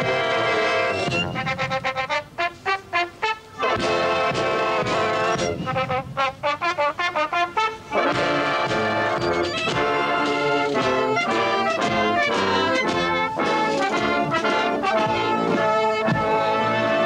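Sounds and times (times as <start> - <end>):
military brass band playing march: 0.0 - 17.0.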